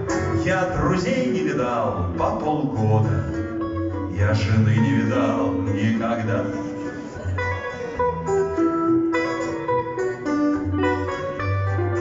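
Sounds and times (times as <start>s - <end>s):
low bass notes: 0.0s - 12.0s
picked guitar melody: 0.0s - 12.0s.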